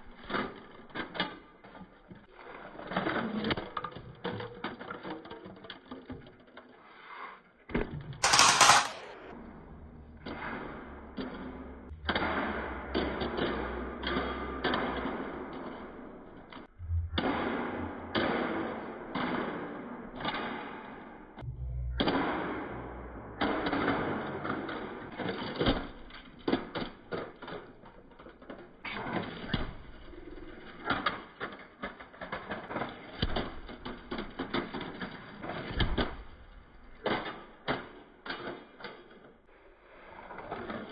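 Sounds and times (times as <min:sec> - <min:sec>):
toy car rattling on concrete: 0:00.0 - 0:07.0, 0:08.2 - 0:16.7, 0:22.7 - 0:40.9.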